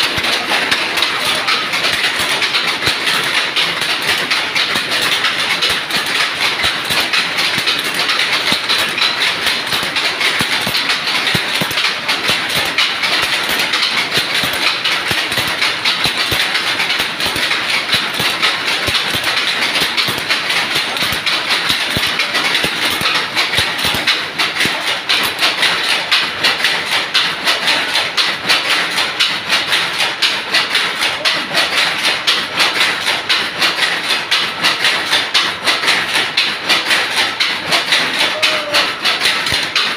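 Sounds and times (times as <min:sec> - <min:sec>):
power loom clattering: 0:00.0 - 0:39.9.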